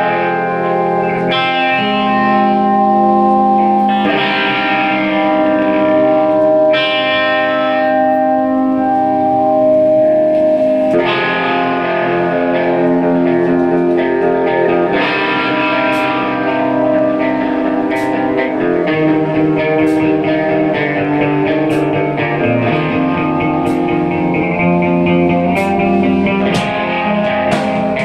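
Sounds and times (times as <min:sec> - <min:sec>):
electric guitar ringing chords: 0:00.0 - 0:28.0.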